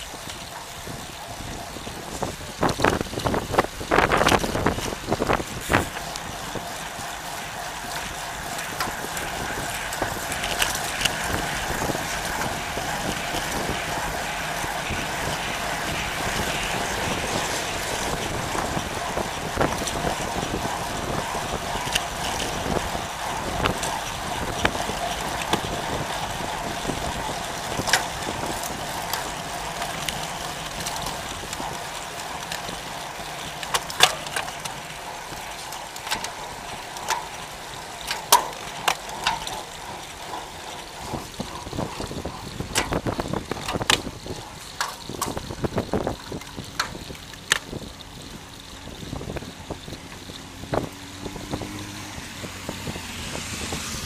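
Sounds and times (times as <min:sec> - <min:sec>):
bike tyre and road noise: 0:00.0 - 0:54.0.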